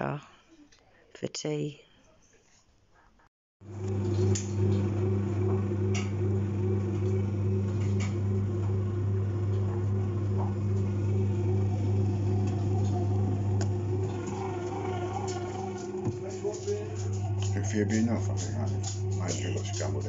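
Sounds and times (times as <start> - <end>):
bread maker motor humming: 3.6 - 20.0.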